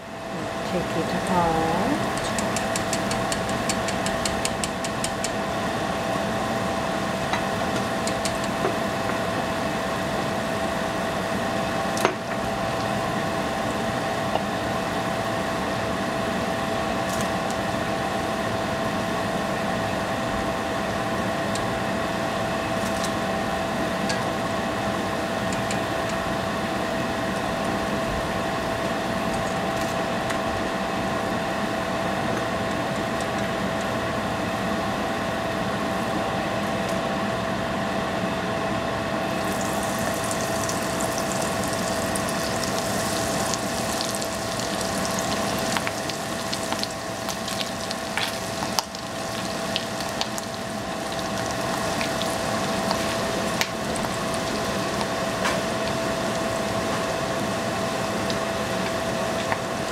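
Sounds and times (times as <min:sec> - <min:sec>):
mechanical fan hum: 0:00.0 - 0:59.9.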